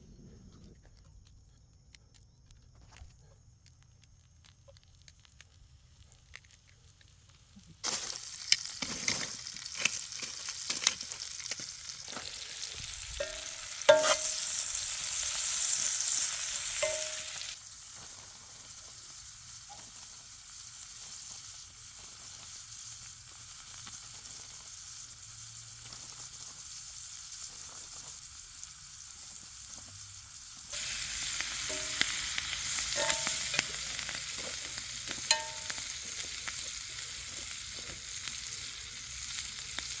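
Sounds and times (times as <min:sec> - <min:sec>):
fire crackles and pops: 0:00.6 - 0:40.0
meat sizzling over a fire: 0:03.6 - 0:40.0.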